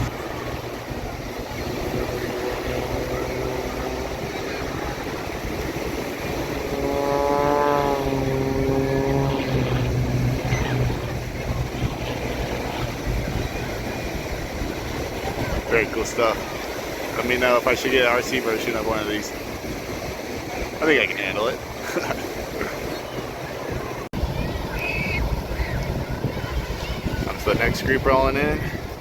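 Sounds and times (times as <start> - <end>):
aircraft flying past: 0.0 - 29.0
surf: 0.0 - 29.0
wind: 0.0 - 29.0.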